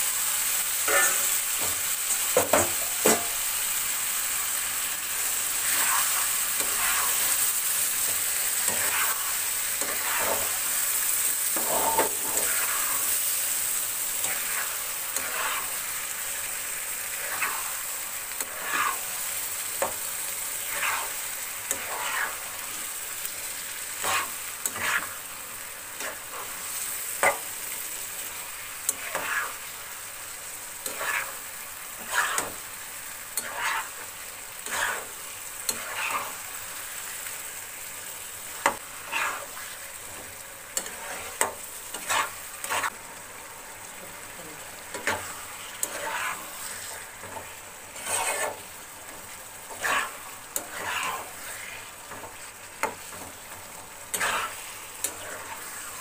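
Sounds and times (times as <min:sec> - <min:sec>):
chicken sizzling in a pan: 0:00.0 - 0:56.0
spatula scraping a pan: 0:00.8 - 0:03.4, 0:05.3 - 0:16.2, 0:17.0 - 0:29.7, 0:30.8 - 0:37.2, 0:38.5 - 0:43.0, 0:44.9 - 0:56.0.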